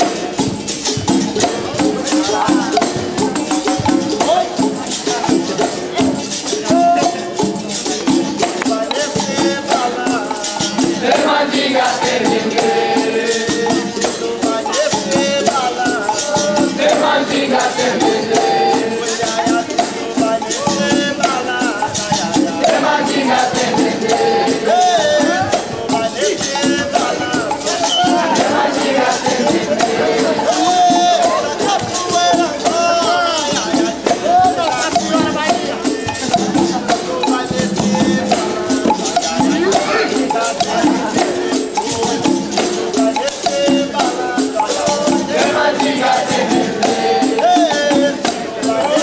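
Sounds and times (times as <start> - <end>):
atabaque drum rhythm: 0.0 - 49.0
berimbau: 0.0 - 49.0
pandeiros: 0.0 - 49.0.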